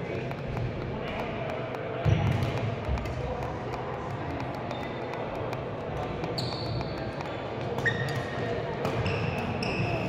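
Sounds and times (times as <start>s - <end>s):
badminton shuttle thuds and ticks: 0.0s - 10.0s.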